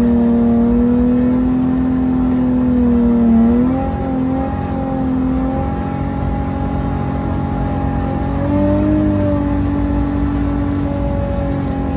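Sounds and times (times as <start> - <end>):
car engine at high revs: 0.0 - 11.9.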